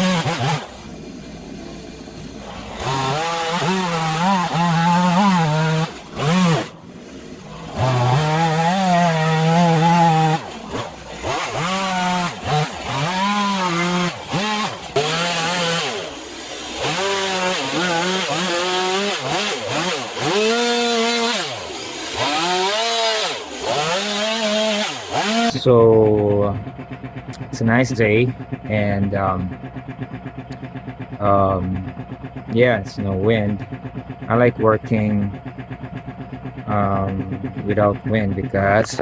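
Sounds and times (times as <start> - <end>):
chainsaw cutting wood revving: 0.0 - 39.0.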